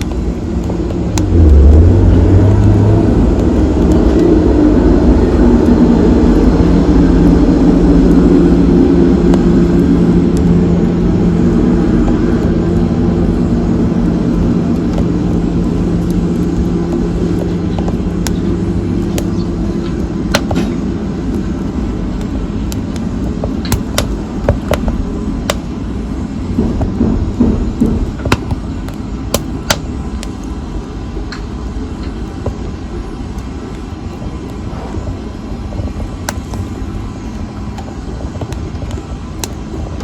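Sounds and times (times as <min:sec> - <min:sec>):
fire crackles and pops: 0:00.0 - 0:40.0
low rumble of flames: 0:00.0 - 0:40.0.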